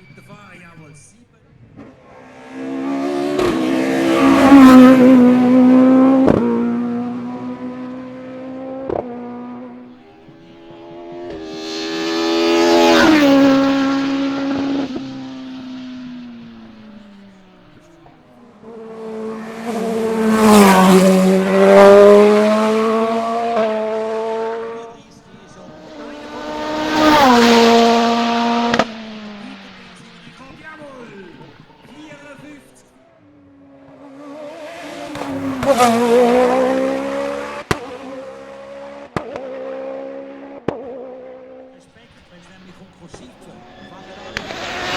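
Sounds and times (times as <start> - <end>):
race car accelerating past: 1.5 - 44.9.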